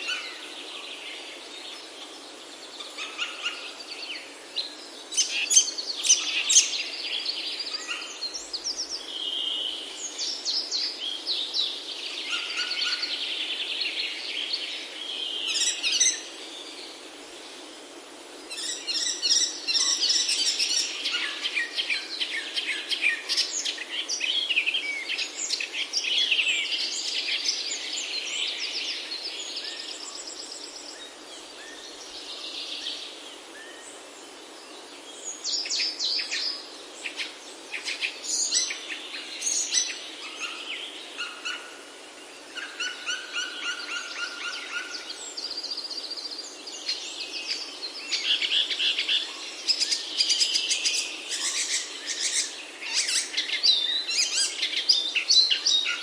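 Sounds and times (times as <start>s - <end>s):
songbirds chirping and trilling: 0.0s - 56.0s
steady background hiss: 0.0s - 56.0s.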